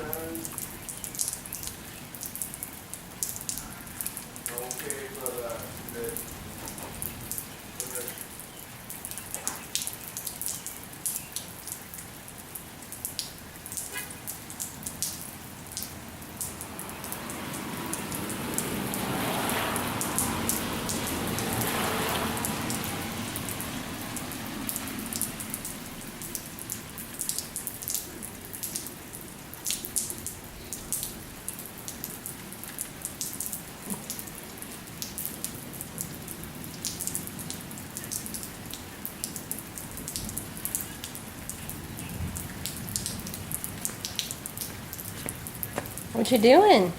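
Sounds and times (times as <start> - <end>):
light rain falling: 0.0 - 46.9
raindrops ticking: 0.0 - 46.9.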